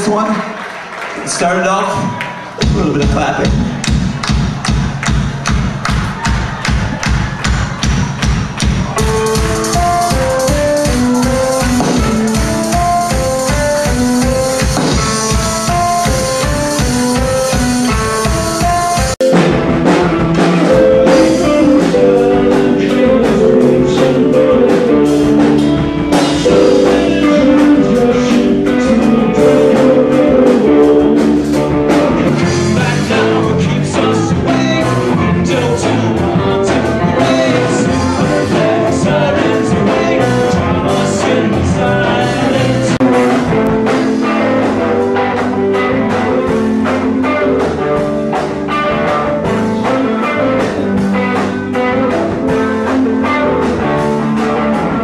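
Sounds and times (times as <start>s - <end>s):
rock band playing: 0.0s - 55.0s
drum kit: 2.6s - 55.0s
electric guitars: 3.5s - 55.0s.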